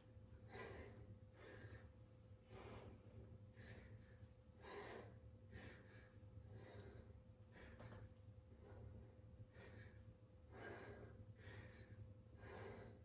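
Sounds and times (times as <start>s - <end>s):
low steady hum: 0.0s - 13.0s
woman breathing with exertion: 0.0s - 13.0s.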